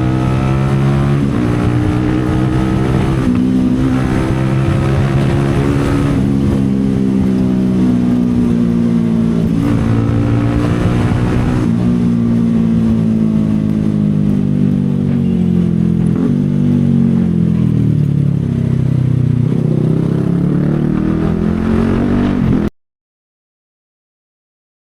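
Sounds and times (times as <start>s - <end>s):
motorcycle engine running: 0.0s - 22.7s.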